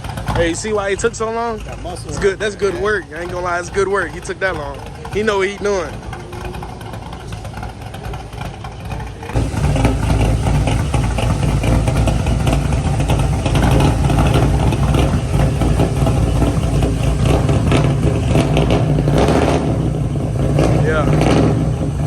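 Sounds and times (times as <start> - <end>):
loud car exhaust: 0.0 - 22.0.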